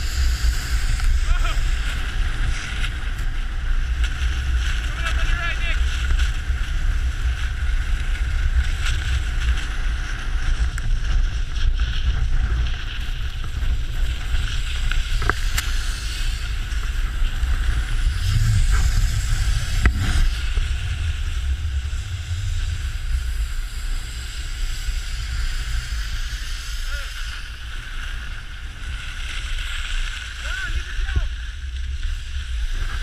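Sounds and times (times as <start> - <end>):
skis sliding on snow: 0.0 - 33.0
wind buffeting microphone: 0.0 - 33.0.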